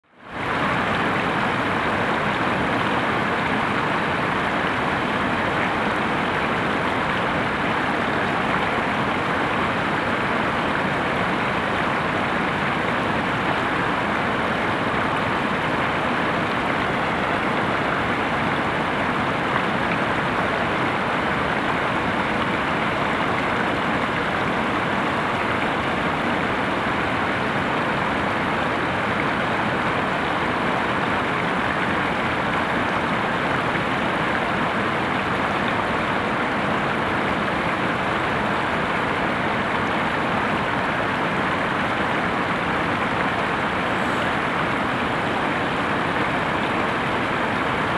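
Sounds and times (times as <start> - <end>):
waterfall rushing: 0.2 - 47.9.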